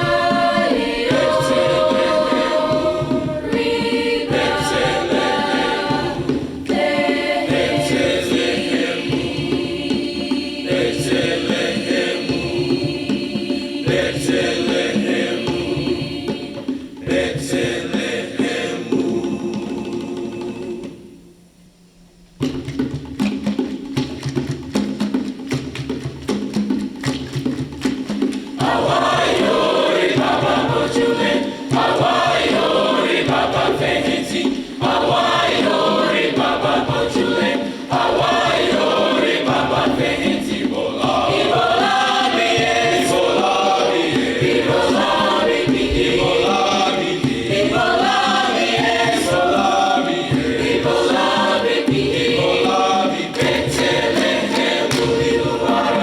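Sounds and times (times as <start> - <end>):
rhythmic instrumental accompaniment: 0.0 - 21.3, 22.4 - 56.0
choir singing: 0.0 - 21.5, 28.5 - 56.0.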